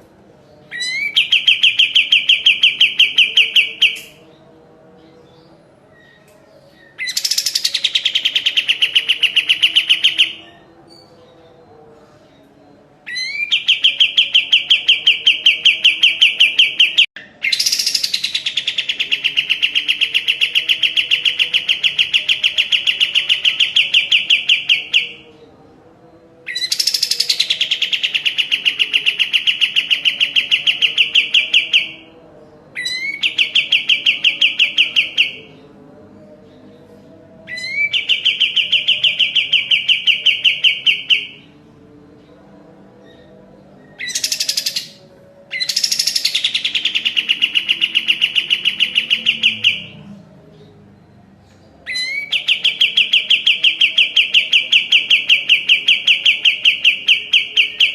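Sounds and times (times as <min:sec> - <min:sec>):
bulbul singing: 0:00.0 - 0:57.9.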